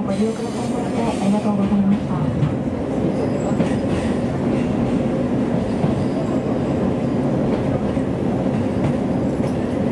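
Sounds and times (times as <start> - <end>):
train wheels rumbling on rail: 0.0 - 9.9.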